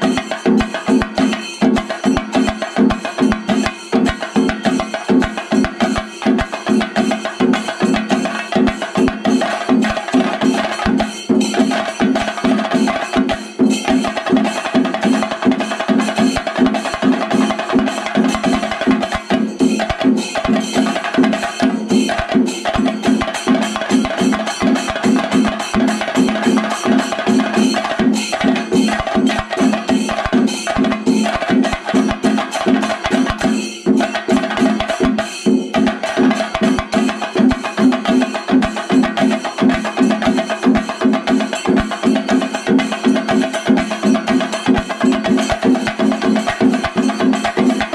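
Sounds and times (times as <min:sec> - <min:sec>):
fast continuous drumming: 0:00.0 - 0:47.9.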